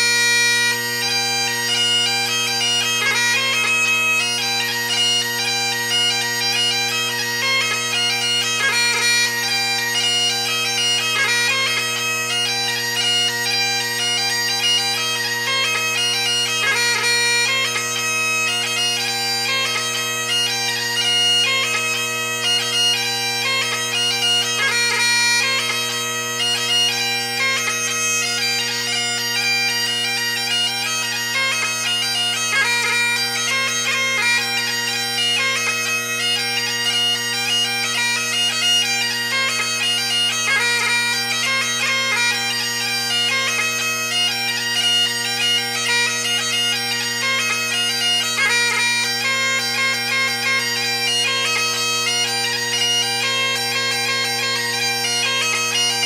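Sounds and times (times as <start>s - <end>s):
bagpipe playing solo: 0.0s - 56.0s.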